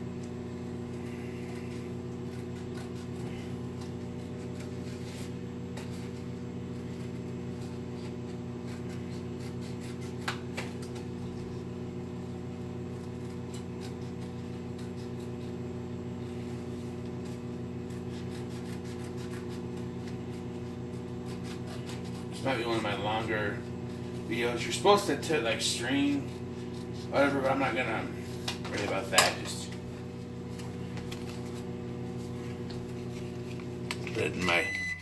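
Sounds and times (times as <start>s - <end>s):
microwave oven humming: 0.0s - 35.0s.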